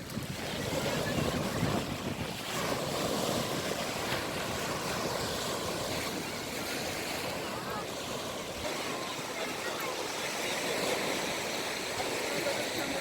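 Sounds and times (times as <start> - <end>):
waves washing ashore: 0.0 - 13.0
wind rumbling on microphone: 0.0 - 13.0.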